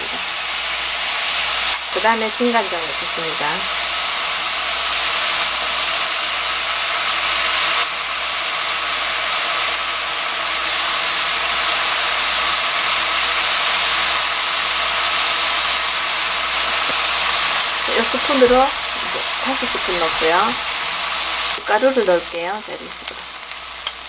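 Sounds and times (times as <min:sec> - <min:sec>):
food sizzling in a hot wok: 0:00.0 - 0:24.0.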